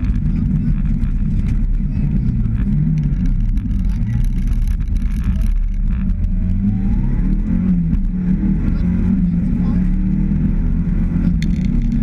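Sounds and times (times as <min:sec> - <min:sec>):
car engine at speed: 0:00.0 - 0:12.0
tyre and road noise: 0:00.0 - 0:12.0.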